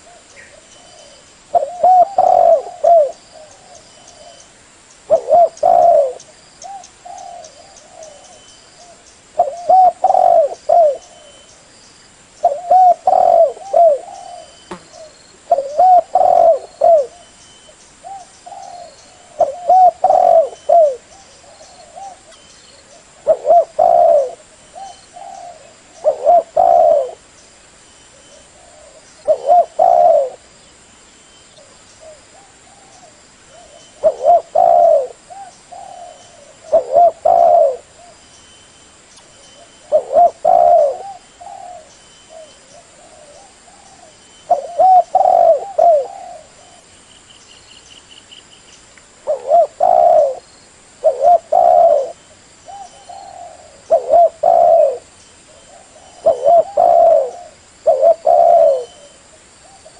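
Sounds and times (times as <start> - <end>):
dove cooing: 0.0 - 4.5, 5.1 - 11.5, 12.4 - 17.3, 18.0 - 27.2, 28.1 - 30.5, 31.6 - 38.2, 39.6 - 46.9, 49.2 - 59.9.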